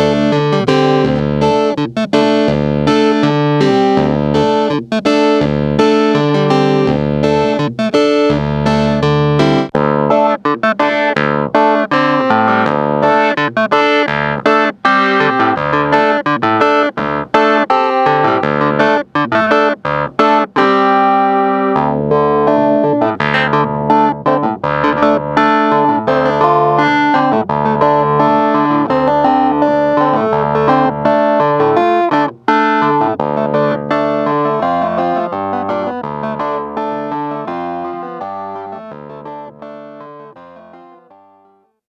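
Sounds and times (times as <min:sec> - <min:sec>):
keyboard staccato chords: 0:00.0 - 0:41.1
bass line: 0:00.0 - 0:41.2.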